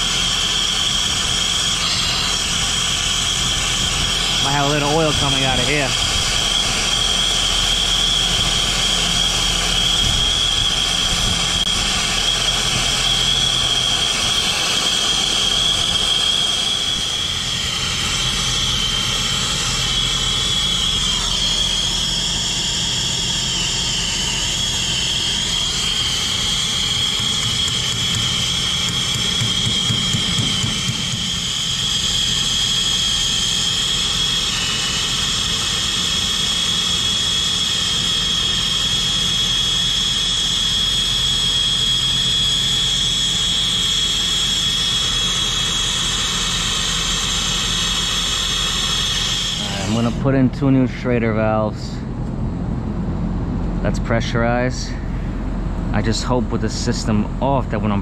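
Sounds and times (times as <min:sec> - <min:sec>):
high whistle: 0:00.0 - 0:50.1
torch flame hissing: 0:00.0 - 0:50.3.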